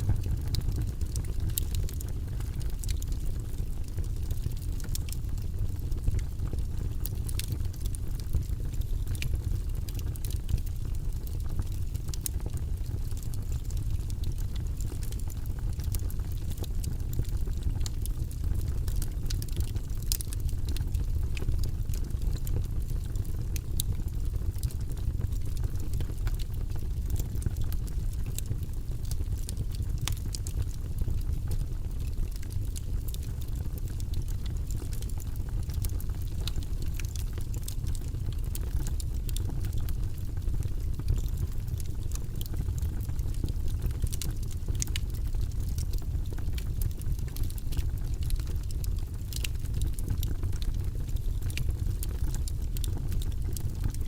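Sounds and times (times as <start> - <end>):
burning logs crackling and popping: 0.0 - 54.0
low rumble of flames: 0.0 - 54.0.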